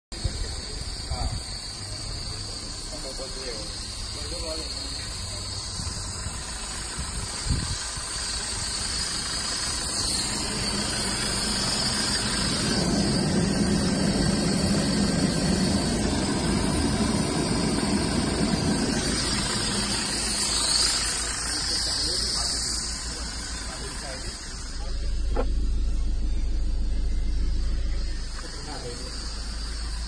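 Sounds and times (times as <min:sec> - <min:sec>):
car engine idling: 0:00.1 - 0:30.0
steady hiss: 0:00.1 - 0:30.0.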